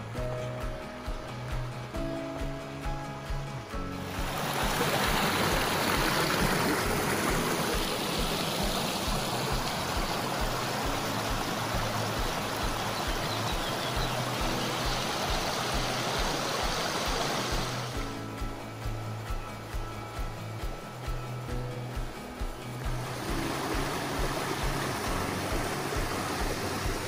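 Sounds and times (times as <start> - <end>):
creek water rushing over rocks: 0.8 - 27.0.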